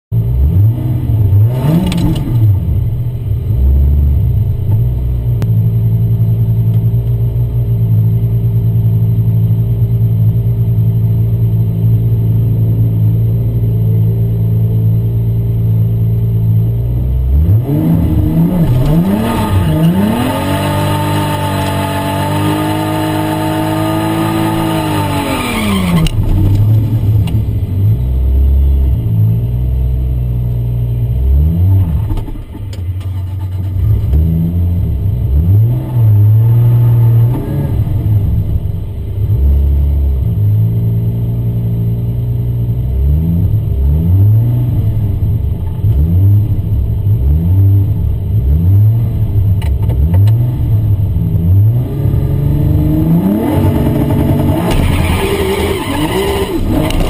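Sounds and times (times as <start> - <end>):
car engine idling and revving: 0.1 - 57.0.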